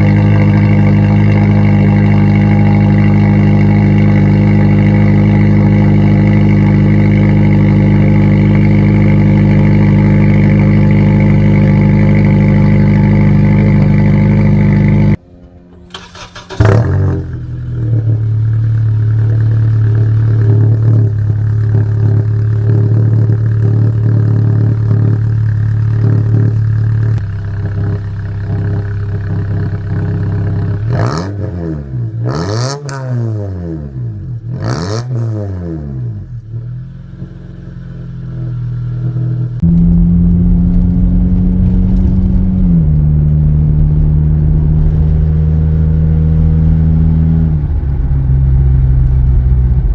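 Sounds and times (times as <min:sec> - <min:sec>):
loud car exhaust revving: 0:00.0 - 0:49.9.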